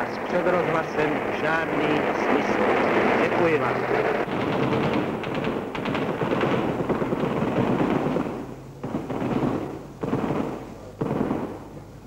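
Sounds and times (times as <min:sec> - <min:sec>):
automatic gunfire bursts: 0:00.0 - 0:11.9.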